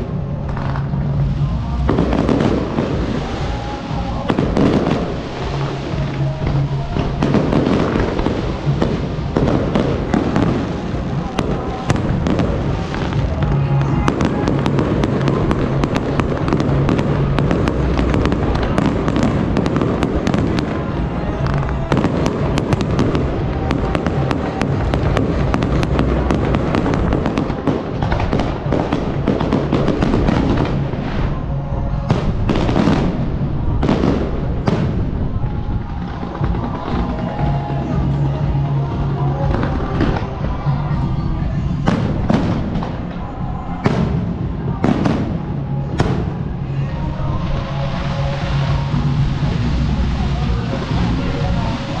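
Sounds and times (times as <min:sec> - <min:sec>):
fireworks crackling and banging: 0:00.0 - 0:52.0.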